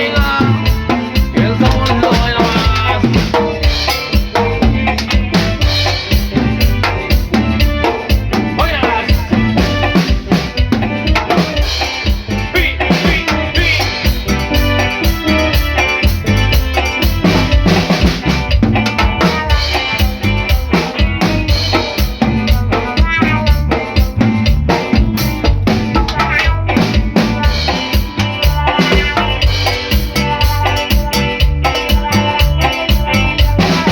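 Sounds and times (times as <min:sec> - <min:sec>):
drum kit playing a steady beat: 0:00.0 - 0:33.9
pitched instruments playing along: 0:00.0 - 0:33.9.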